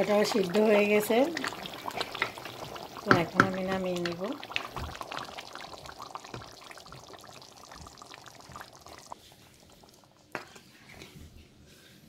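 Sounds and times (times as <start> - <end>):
curry bubbling in a pot: 0.0 - 11.0.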